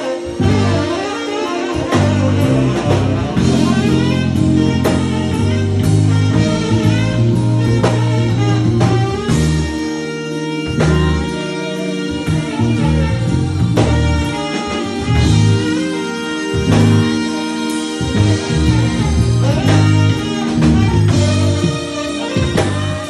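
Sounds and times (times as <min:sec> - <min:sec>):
live blues band playing: 0:00.0 - 0:23.0.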